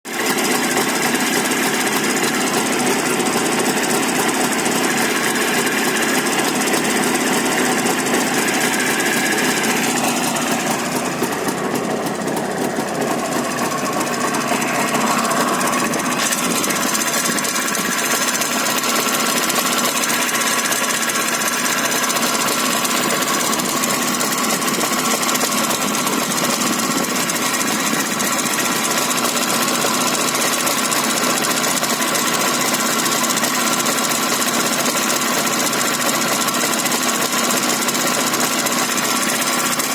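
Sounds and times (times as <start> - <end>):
two-stroke motorcycle engine knocking: 0.1 - 39.9.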